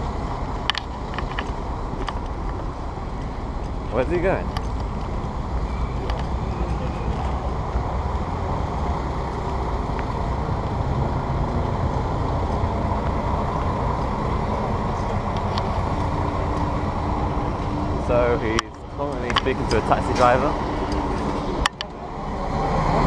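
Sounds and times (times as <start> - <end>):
bus engine hum: 0.0 - 23.0
city street traffic: 0.0 - 23.0.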